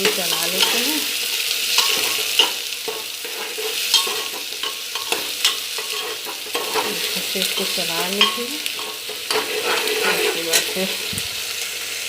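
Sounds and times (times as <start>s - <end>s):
spoon clinking and scraping pot: 0.0s - 11.1s
onions sizzling in oil: 0.0s - 12.0s.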